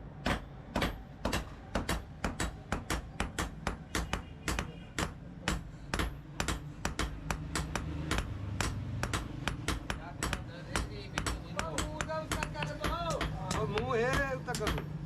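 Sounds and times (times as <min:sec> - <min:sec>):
hammer striking steel on anvil: 0:00.2 - 0:15.0.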